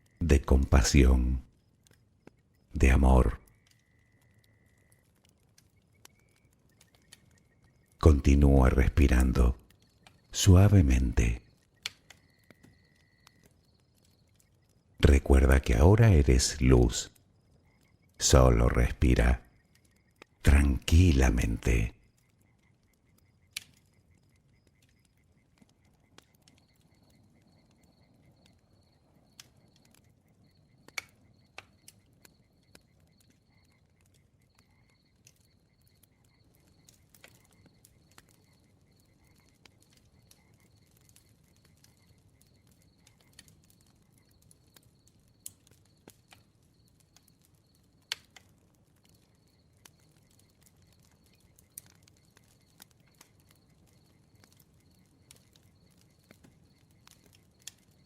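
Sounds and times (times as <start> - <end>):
bonfire crackling: 0.0 - 58.0
fire pops and snaps: 0.0 - 58.0.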